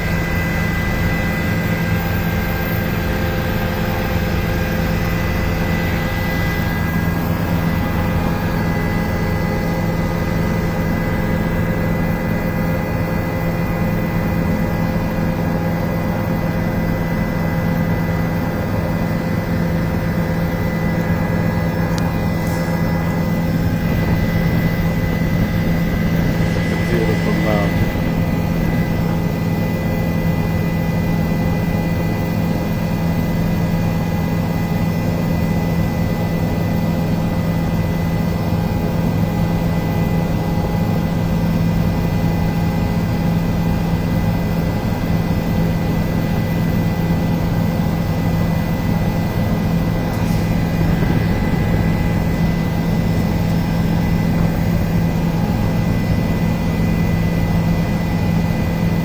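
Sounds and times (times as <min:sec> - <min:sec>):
helicopter engine and rotor drone: 0:00.0 - 0:59.0
high steady whine: 0:00.0 - 0:59.0.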